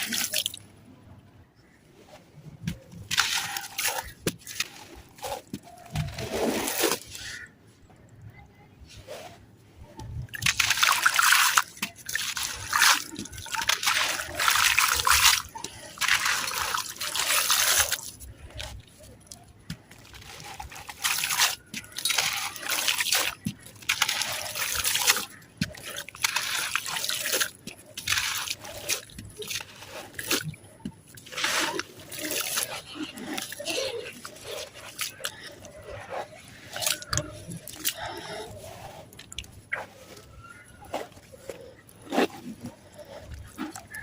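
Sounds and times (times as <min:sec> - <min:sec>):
crumbles crunching and trickling grit: 0:01.6 - 0:07.6, 0:10.0 - 0:44.0.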